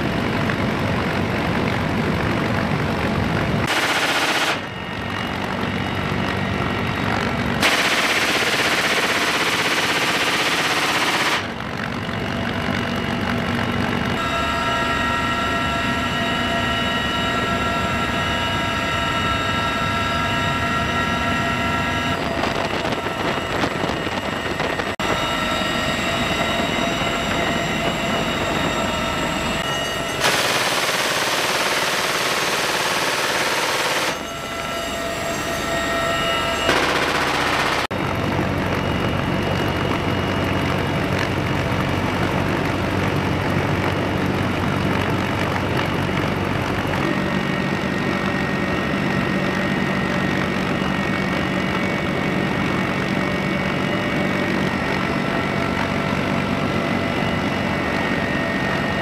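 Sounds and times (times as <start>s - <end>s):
helicopter cabin noise: 0.0s - 59.0s
steady high whine: 0.0s - 59.0s.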